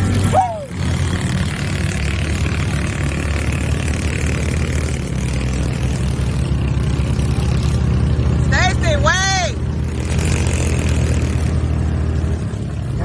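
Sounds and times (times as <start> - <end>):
road and tyre noise: 0.0 - 13.0
vehicle engine running: 0.0 - 13.0.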